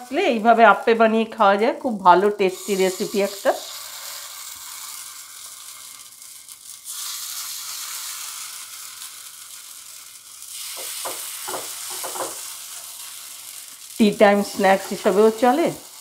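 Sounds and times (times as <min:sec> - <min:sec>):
batter sizzling in pan: 0:00.0 - 0:16.0.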